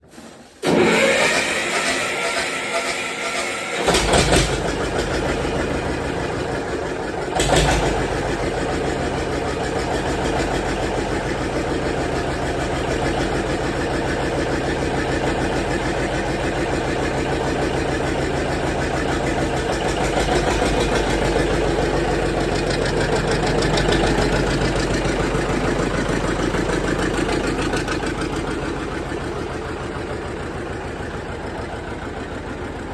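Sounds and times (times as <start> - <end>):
diesel engine pulsing: 0.6 - 32.9.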